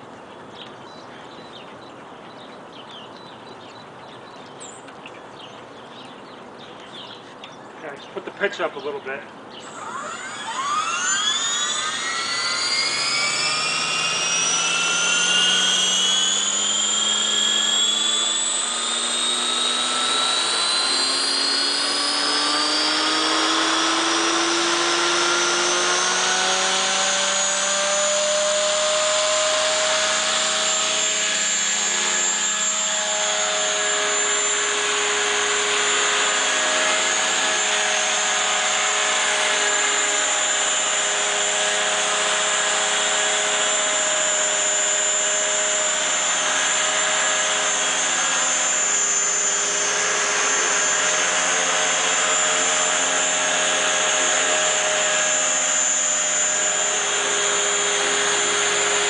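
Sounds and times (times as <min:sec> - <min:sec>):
electric helicopter whine: 0:02.6 - 0:59.0.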